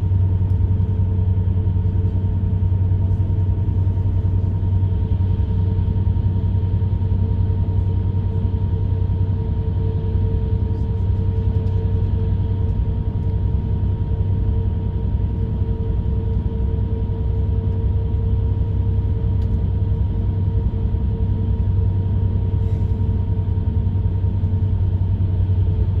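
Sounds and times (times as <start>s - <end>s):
bus engine and road rumble: 0.0s - 26.0s
mid-pitched hum: 0.0s - 26.0s.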